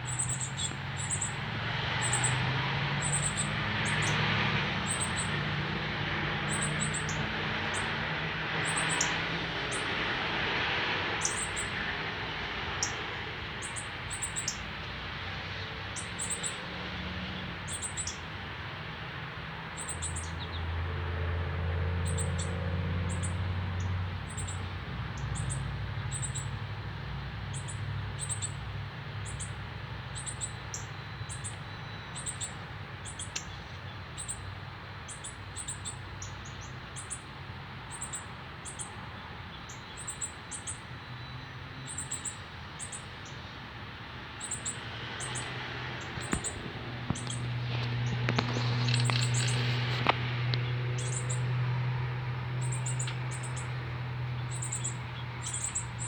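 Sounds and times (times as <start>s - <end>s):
birds chipping: 0.0s - 56.0s.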